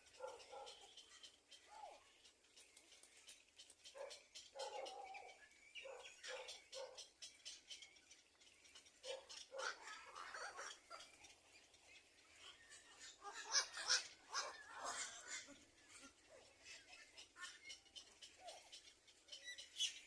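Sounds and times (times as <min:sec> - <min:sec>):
birds chirping and squeaking: 0:00.0 - 0:20.0.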